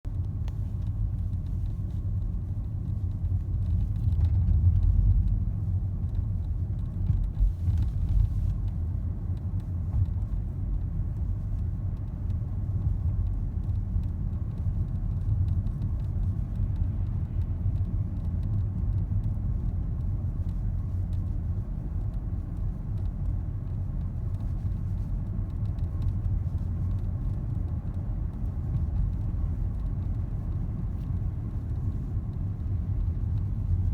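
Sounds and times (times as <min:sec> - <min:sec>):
road rumble inside car: 0:00.0 - 0:33.9.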